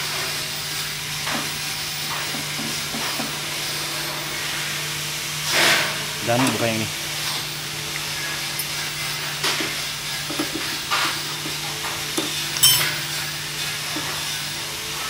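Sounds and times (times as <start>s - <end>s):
steady hum and hiss: 0.0s - 15.0s.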